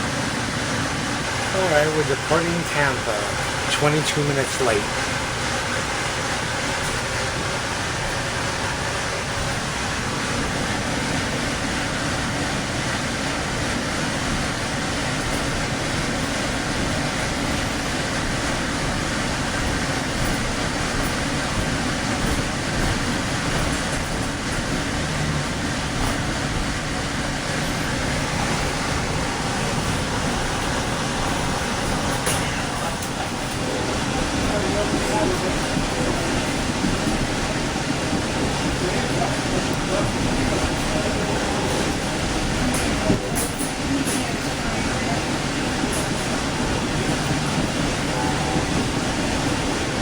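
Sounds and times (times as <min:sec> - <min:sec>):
train car rolling on rails: 0:00.0 - 0:50.0.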